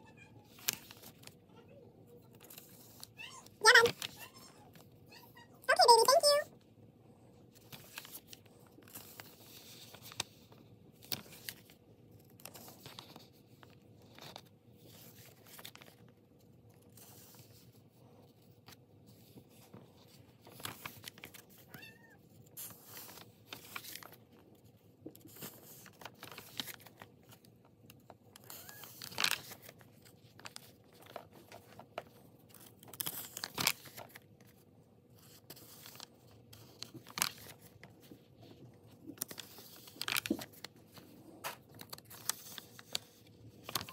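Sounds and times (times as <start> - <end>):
paper rustling and crinkling: 0.4 - 1.4, 2.2 - 4.9, 7.5 - 43.9.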